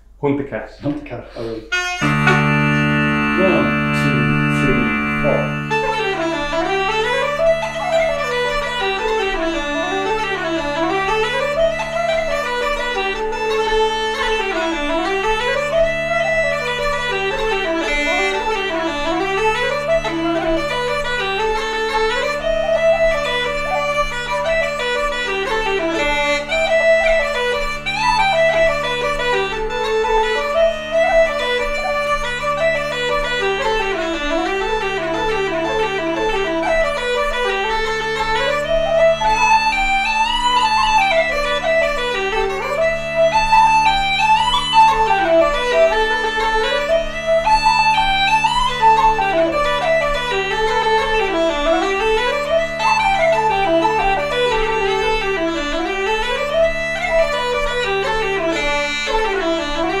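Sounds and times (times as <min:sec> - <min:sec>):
uilleann pipes playing jig: 0:00.9 - 1:00.0
bagpipe drones: 0:01.3 - 1:00.0
wooden flute: 0:01.3 - 1:00.0.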